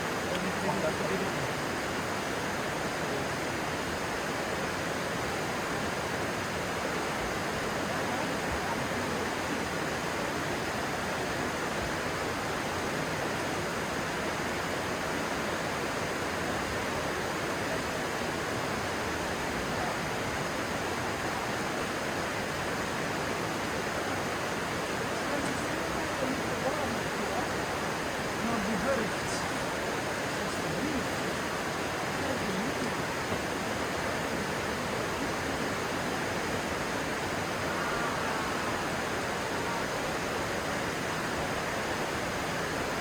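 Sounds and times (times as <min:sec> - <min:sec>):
stream water flowing: 0:00.0 - 0:43.0.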